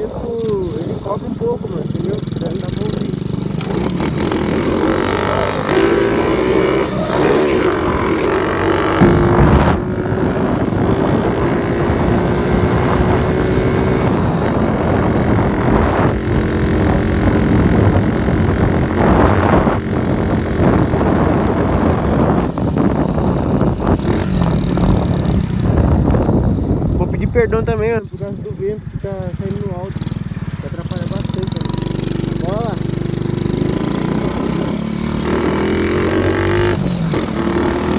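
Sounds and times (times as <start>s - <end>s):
wind on microphone: 0.0s - 30.6s
motorcycle engine running: 0.0s - 37.9s.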